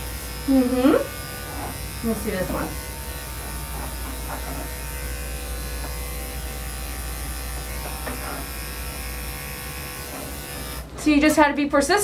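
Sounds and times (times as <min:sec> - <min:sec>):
electric clippers humming: 0:00.0 - 0:11.5.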